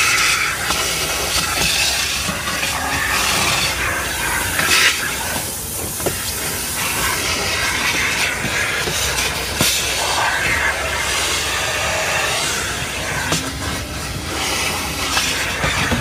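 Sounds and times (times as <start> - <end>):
vacuum hose hissing: 0.0 - 16.0.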